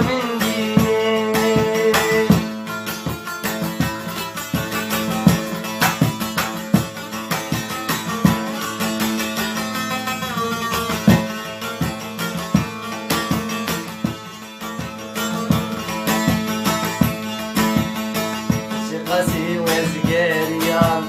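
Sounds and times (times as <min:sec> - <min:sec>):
plucked string instrument: 0:00.0 - 0:21.0
steady beat: 0:00.0 - 0:21.0.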